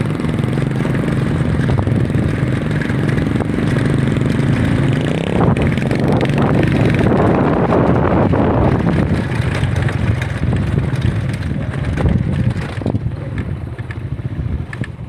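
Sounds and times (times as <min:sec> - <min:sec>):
vehicle rumbling on dirt track: 0:00.0 - 0:15.0
wind buffeting microphone: 0:00.0 - 0:15.0.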